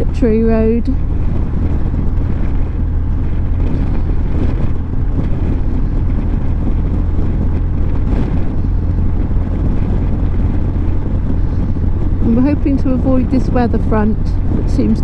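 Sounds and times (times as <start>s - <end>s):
motorcycle engine running: 0.0s - 15.0s
wind rushing past microphone: 0.0s - 15.0s.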